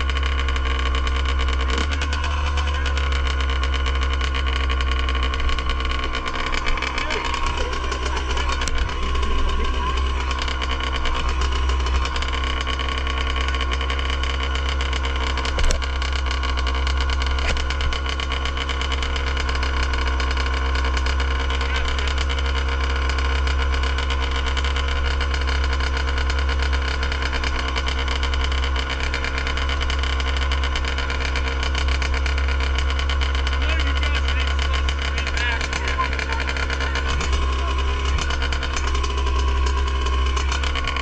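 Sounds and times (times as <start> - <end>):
dirt bike engine idling: 0.0 - 41.0.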